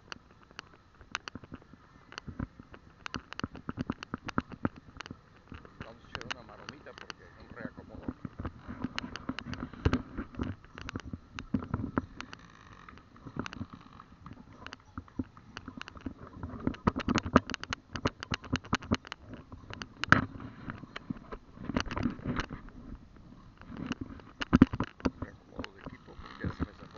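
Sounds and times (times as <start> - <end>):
faint street noise: 0.0 - 26.9.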